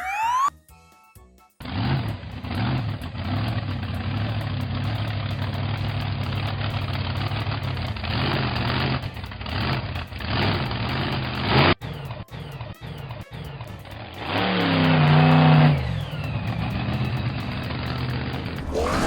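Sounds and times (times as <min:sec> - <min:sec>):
heavy vehicle engine idling and revving: 0:01.6 - 0:18.6.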